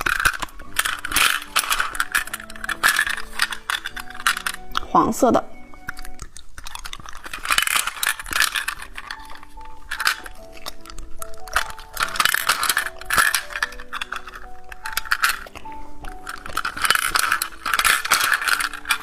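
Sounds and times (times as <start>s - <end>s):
hard candies rattling and clinking: 0.0s - 19.0s
tinkling background music: 0.0s - 19.0s.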